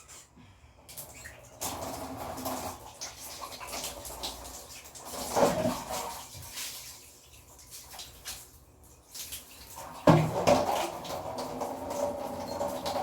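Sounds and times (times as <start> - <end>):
wet clothes sloshing and rubbing: 1.1 - 13.0.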